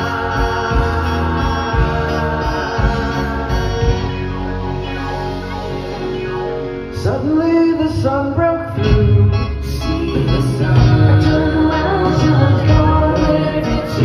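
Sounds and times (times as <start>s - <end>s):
people singing: 0.0s - 6.0s, 7.0s - 14.0s
live pop band music: 0.0s - 14.0s.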